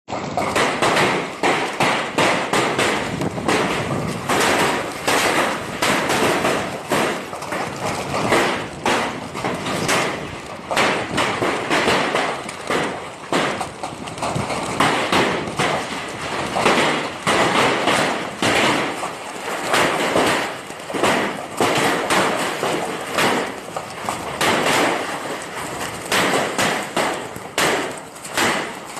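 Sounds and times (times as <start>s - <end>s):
hailstones clattering: 0.1s - 28.9s.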